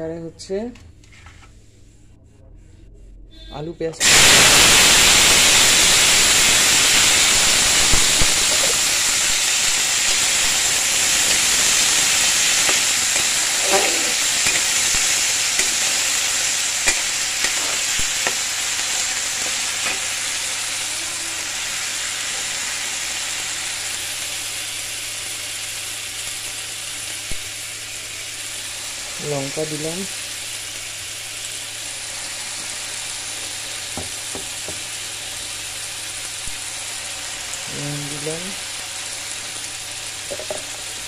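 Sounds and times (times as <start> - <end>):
vegetables sizzling in oil: 4.0 - 41.0.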